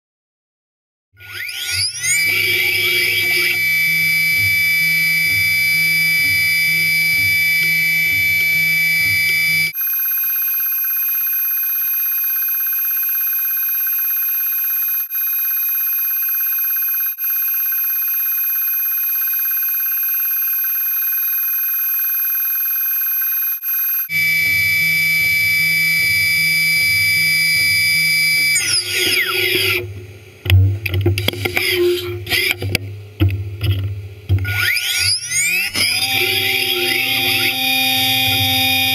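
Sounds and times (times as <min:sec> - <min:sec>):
machine spindle whining: 0:01.2 - 0:30.0, 0:31.2 - 0:32.8, 0:34.4 - 0:38.9.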